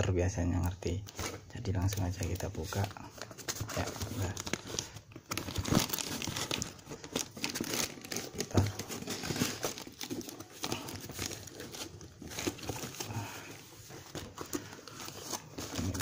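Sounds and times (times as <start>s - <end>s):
paper crinkling and tearing: 1.1s - 16.0s.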